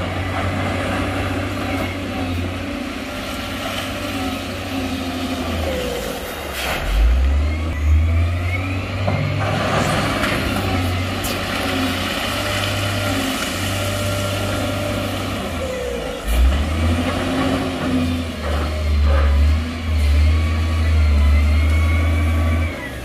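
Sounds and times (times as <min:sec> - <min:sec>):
heavy diesel engine under load: 0:00.0 - 0:23.0.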